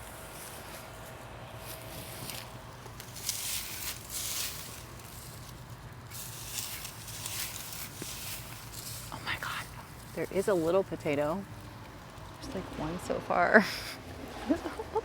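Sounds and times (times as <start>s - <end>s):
rustling and scraping of foliage and soil: 0.0s - 15.0s.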